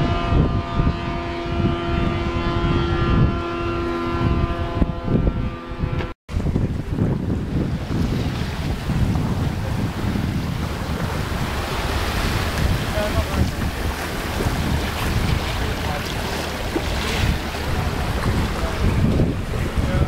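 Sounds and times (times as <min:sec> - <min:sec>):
water rushing along a hull: 0:00.0 - 0:20.0
wind buffeting microphone: 0:00.0 - 0:20.0.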